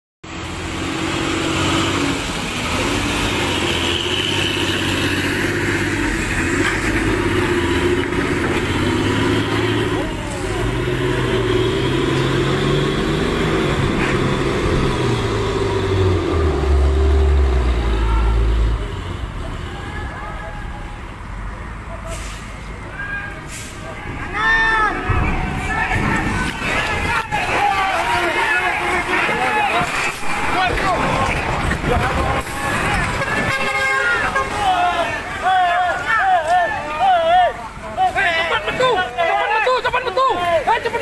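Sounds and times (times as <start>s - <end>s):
diesel truck engine revving: 0.2s - 41.0s.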